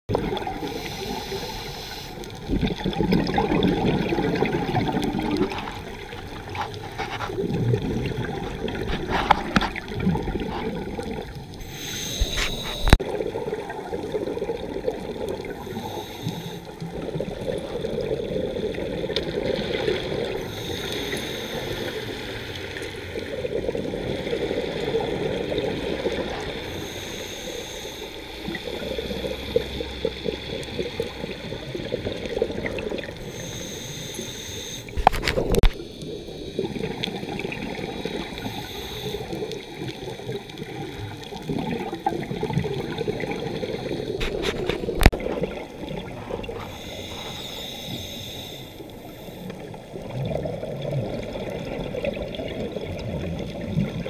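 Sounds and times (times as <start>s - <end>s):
gurgling regulator bubbles: 0.1s - 54.0s.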